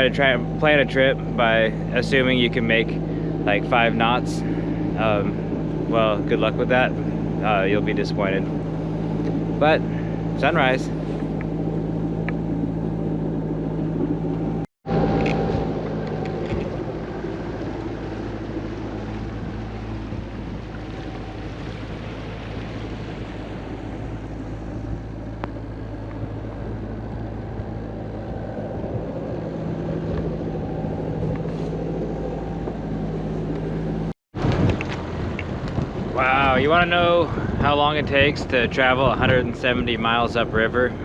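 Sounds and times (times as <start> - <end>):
diesel boat engine drone: 0.0 - 41.0.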